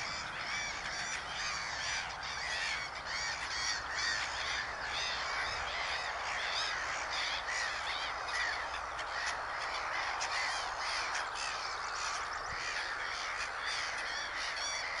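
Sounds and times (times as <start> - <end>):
chorus of birds calling: 0.0 - 15.0.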